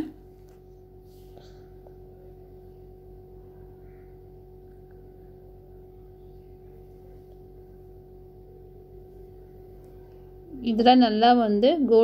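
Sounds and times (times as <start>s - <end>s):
constant mid-pitched tone: 0.0s - 12.0s
low hum: 0.0s - 12.0s.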